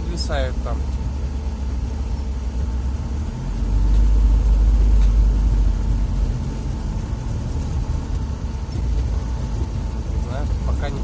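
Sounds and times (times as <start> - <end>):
vehicle engine from inside cab: 0.0 - 11.0.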